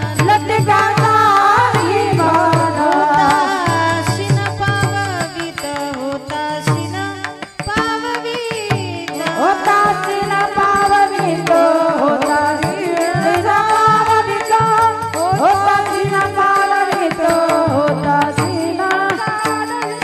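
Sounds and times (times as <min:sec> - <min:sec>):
woman singing devotional melody: 0:00.0 - 0:20.0.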